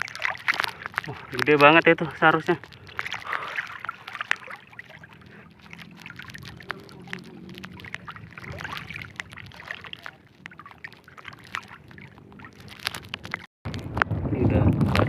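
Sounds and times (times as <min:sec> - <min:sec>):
water sloshing and dripping: 0:00.0 - 0:13.8
small ticks and splashes: 0:00.0 - 0:14.0.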